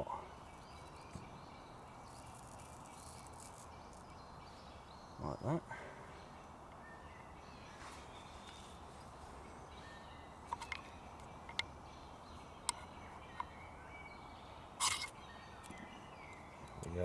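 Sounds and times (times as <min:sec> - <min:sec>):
faint bird calls: 0:00.0 - 0:17.0.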